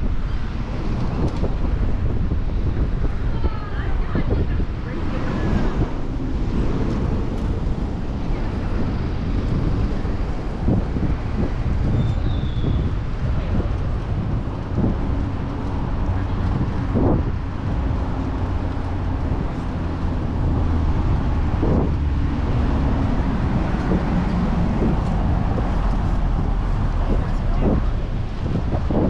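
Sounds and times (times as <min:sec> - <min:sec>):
city traffic rumble: 0:00.0 - 0:29.0
wind buffeting microphone: 0:00.0 - 0:29.0.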